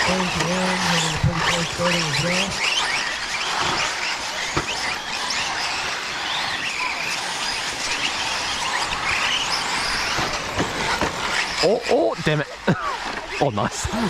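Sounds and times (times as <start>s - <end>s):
toy truck motors whining: 0.0s - 14.0s.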